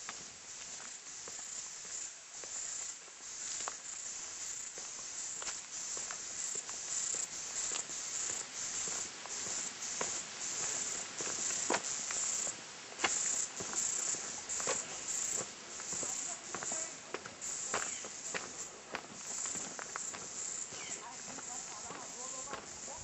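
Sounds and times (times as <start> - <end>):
footsteps on leafy dirt path: 0.0 - 23.0
insects buzzing: 0.0 - 23.0.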